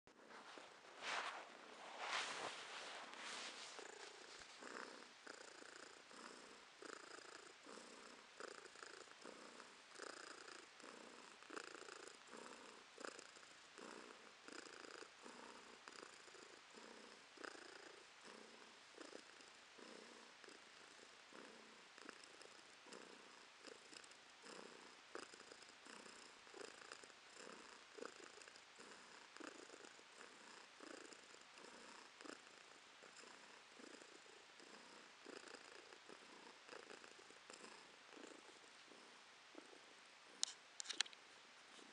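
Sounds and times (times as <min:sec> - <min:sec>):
cat purring: 0:00.1 - 0:40.6.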